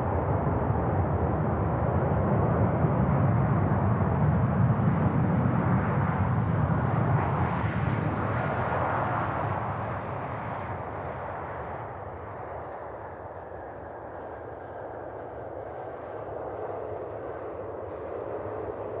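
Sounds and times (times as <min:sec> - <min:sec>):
jet airliner rumble: 0:00.0 - 0:19.0.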